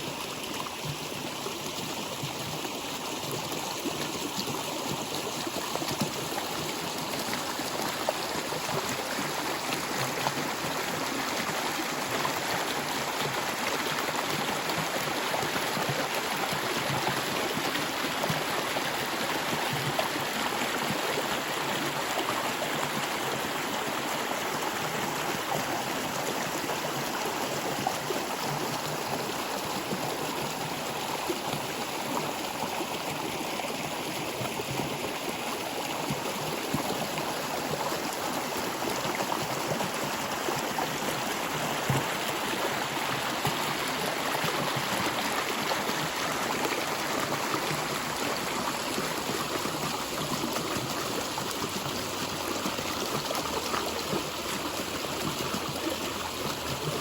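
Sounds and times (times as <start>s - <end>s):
stream water rushing and trickling: 0.0s - 57.0s.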